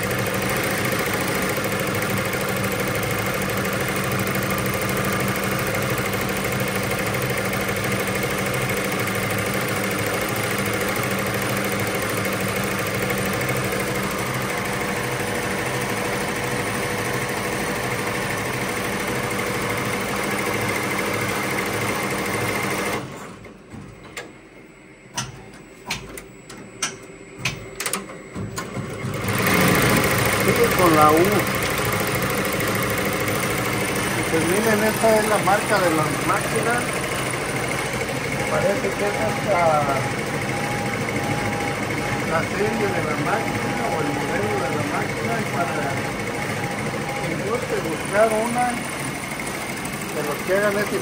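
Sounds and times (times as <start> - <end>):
embroidery machine rattling: 0.0 - 23.2, 28.6 - 51.0.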